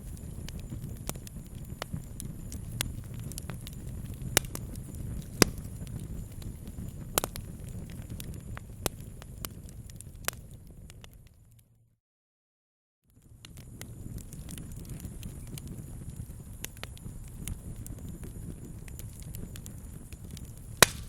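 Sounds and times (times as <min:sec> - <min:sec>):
campfire crackling and popping: 0:00.0 - 0:11.6, 0:13.2 - 0:21.0.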